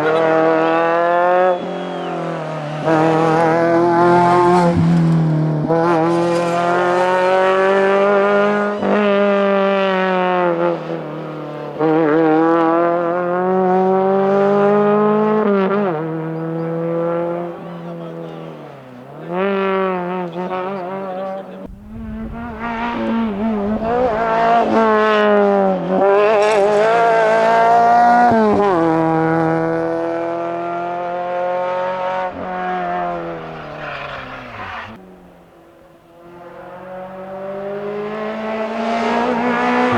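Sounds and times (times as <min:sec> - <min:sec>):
rally car engine revving hard: 0:00.0 - 0:39.9.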